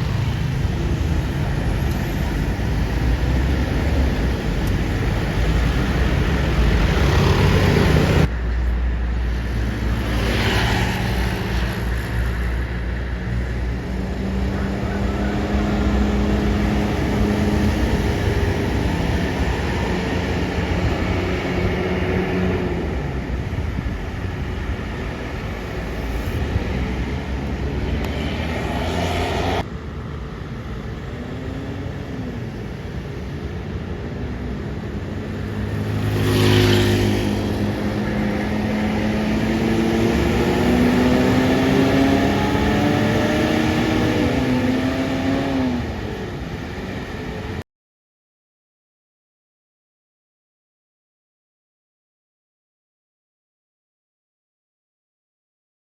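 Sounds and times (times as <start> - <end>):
buses driving past: 0.0 - 47.6
road traffic noise: 0.0 - 47.6.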